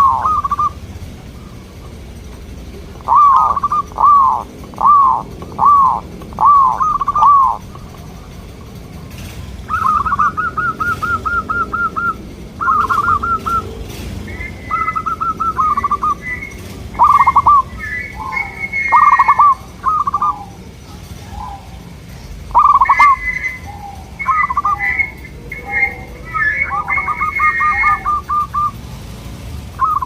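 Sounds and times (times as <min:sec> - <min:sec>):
doves cooing: 0:00.0 - 0:30.0.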